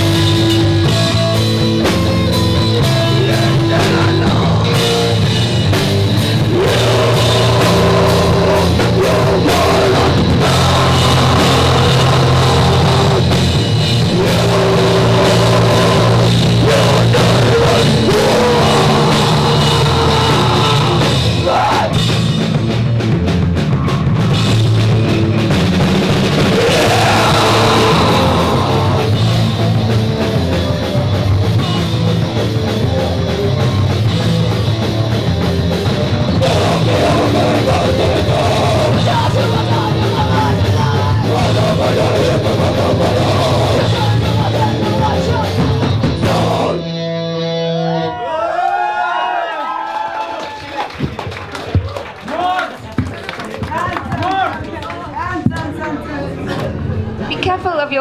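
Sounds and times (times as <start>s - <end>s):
punk rock band playing: 0.0s - 48.3s.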